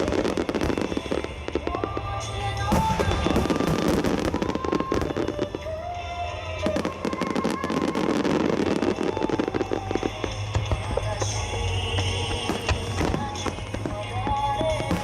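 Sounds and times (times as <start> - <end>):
fireworks cracking and banging: 0.0 - 15.0
music through loudspeakers: 0.0 - 15.0.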